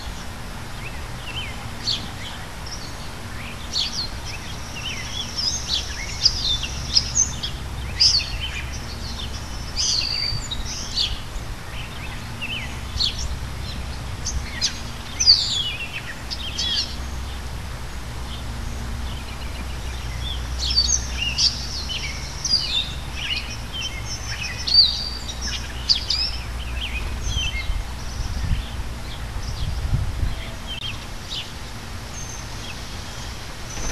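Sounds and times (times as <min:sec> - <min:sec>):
low background rumble: 0:00.0 - 0:33.9
small birds chirping: 0:00.0 - 0:33.9.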